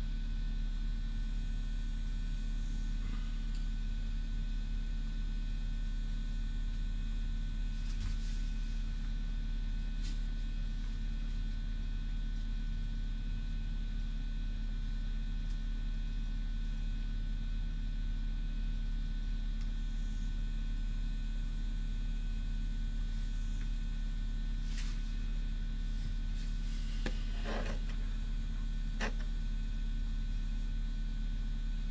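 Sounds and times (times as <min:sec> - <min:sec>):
electrical mains hum: 0:00.0 - 0:31.9.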